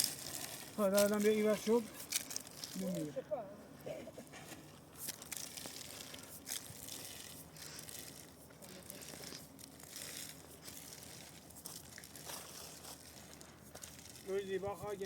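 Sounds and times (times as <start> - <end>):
rustling and crinkling: 0.0 - 3.2, 4.1 - 15.0.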